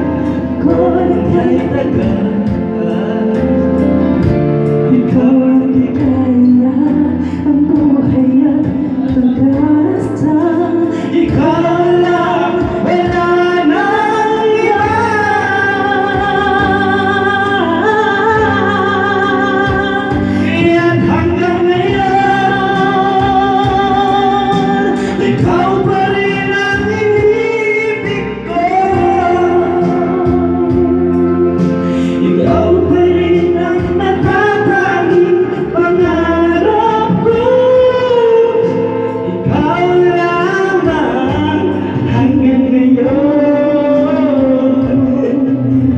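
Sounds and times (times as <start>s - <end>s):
backing music: 0.0s - 45.9s
people singing into microphones: 0.0s - 45.9s.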